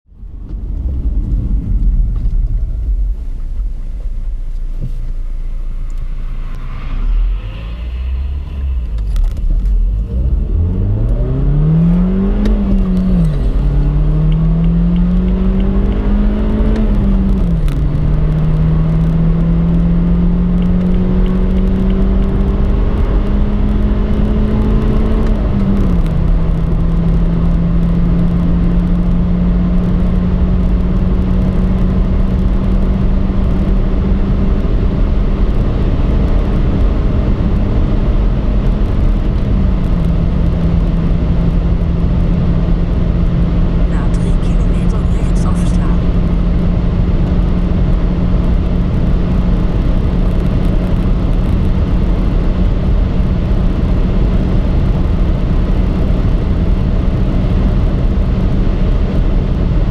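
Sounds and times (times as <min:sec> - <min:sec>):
road and wind noise: 0:00.0 - 0:59.9
car engine accelerating: 0:00.2 - 0:59.9.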